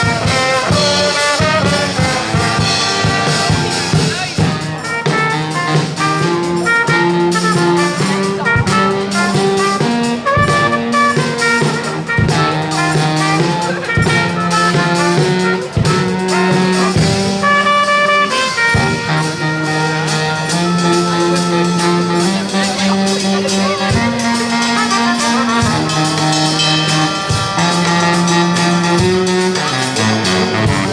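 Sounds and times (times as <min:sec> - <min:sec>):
brass band playing jazzy tune: 0:00.0 - 0:30.9
drum kit beat: 0:00.0 - 0:30.9.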